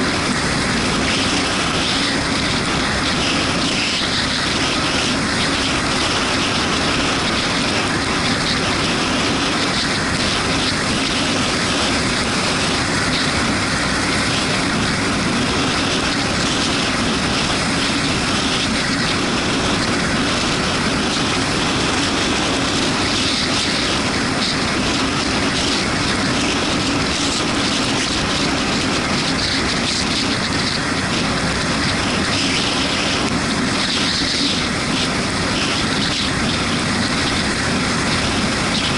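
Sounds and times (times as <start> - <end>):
motorcycle engine running: 0.0 - 38.9
road noise on wet roads: 0.0 - 38.9.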